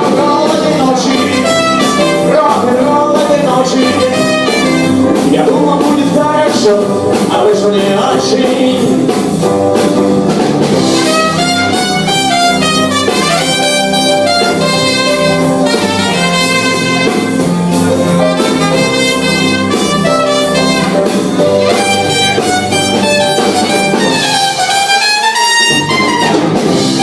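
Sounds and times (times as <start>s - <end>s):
drums: 0.0s - 27.0s
live rock band instrumental: 0.0s - 27.0s
melodic lead guitar line: 0.0s - 27.0s.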